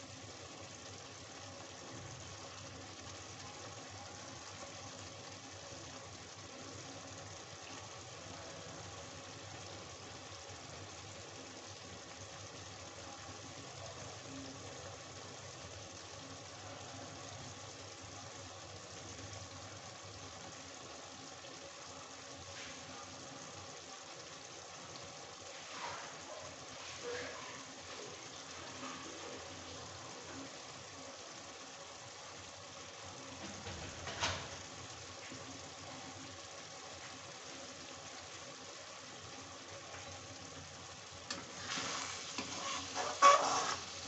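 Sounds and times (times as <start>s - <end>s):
curry simmering with low hiss: 0.0s - 44.0s
thick gravy bubbling: 0.0s - 44.0s.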